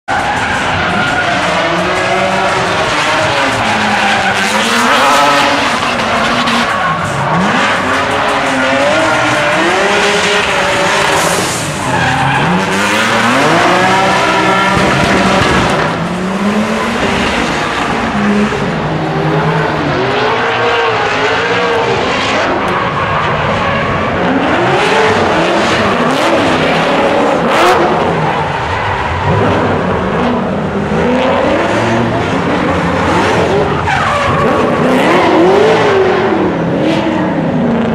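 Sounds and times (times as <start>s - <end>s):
car engines revving hard: 0.0s - 37.9s.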